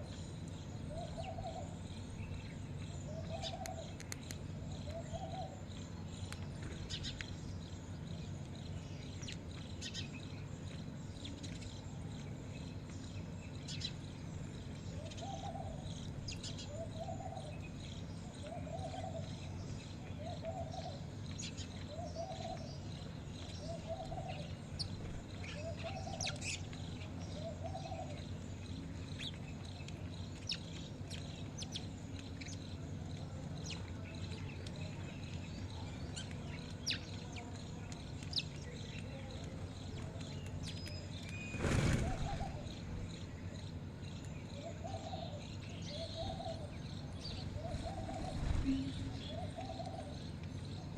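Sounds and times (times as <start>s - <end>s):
birds chirping: 0.0s - 50.9s
steady low hum: 0.0s - 50.9s.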